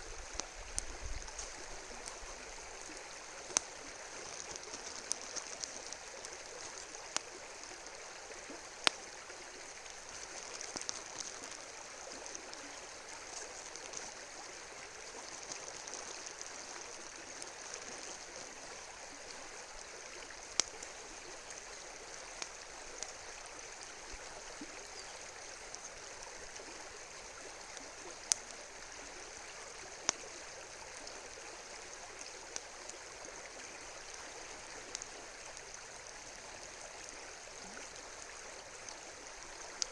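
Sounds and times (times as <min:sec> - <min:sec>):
campfire wood popping: 0:00.0 - 0:36.4, 0:37.8 - 0:39.9
river flowing: 0:00.0 - 0:39.9.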